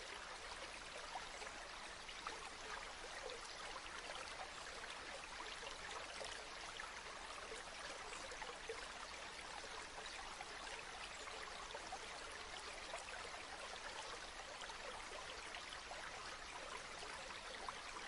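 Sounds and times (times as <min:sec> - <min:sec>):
stream water flowing: 0:00.0 - 0:18.0.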